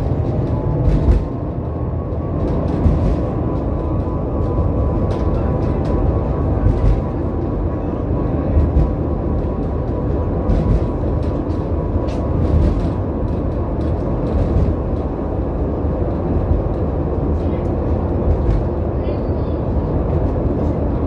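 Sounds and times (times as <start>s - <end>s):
tram rumbling along track: 0.0s - 21.0s.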